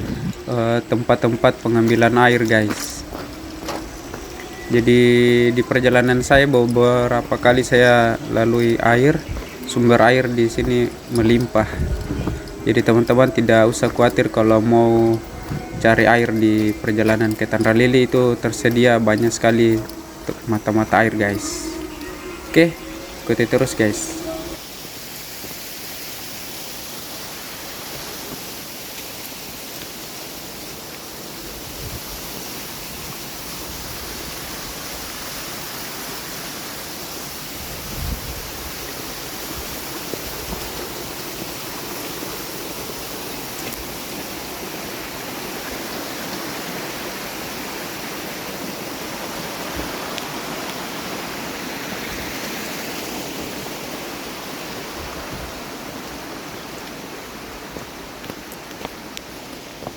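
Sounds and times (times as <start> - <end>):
flowing stream water: 0.0 - 59.9.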